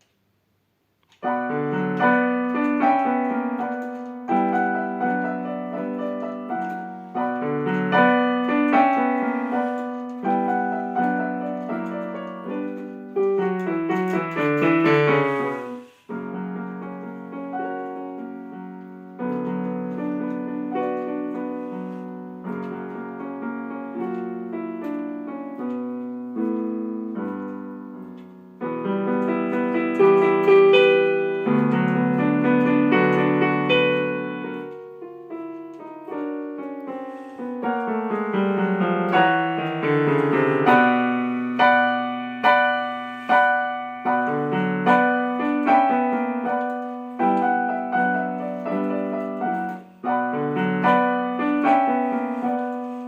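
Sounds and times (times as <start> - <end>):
solo piano playing slowly: 1.1 - 53.0.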